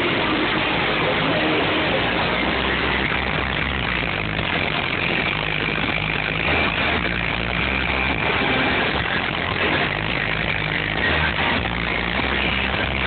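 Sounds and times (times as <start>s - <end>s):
loud subwoofer bass notes: 0.0s - 13.0s.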